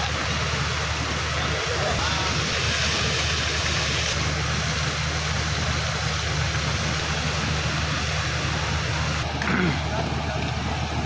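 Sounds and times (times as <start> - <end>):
outdoor noise hiss: 0.0 - 11.0
train diesel engine idling: 0.0 - 11.0.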